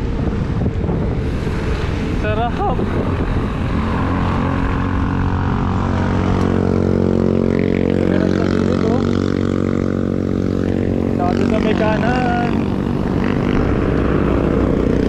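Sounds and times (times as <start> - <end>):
road noise: 0.0 - 15.0
vehicle engine droning: 0.0 - 15.0
wind on microphone: 0.0 - 15.0.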